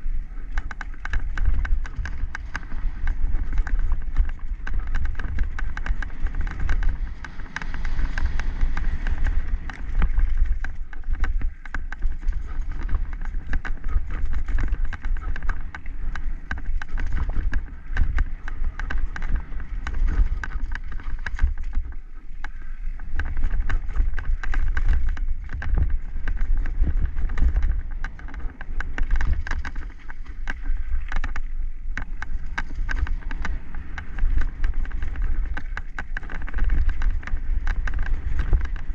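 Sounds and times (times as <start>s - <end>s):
bike rattling: 0.0s - 38.9s
wind buffeting microphone: 0.0s - 38.9s.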